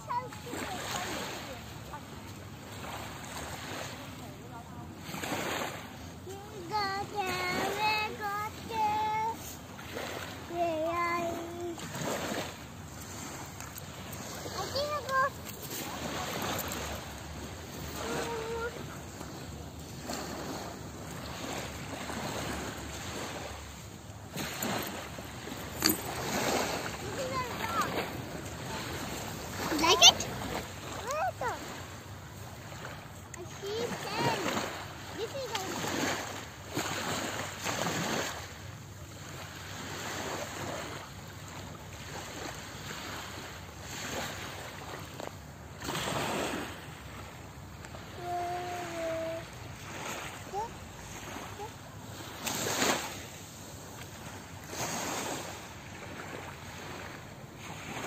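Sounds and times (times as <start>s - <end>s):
small waves washing onto sand: 0.0s - 58.0s.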